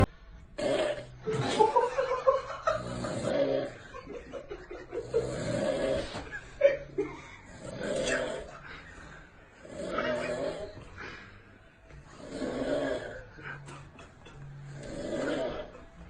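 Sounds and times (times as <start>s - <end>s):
people laughing and snickering: 1.2s - 16.0s.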